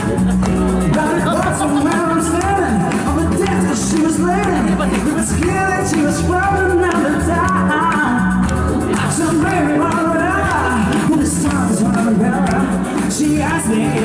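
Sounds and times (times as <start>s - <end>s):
live band playing: 0.0s - 14.0s
man singing into a microphone: 0.6s - 14.0s.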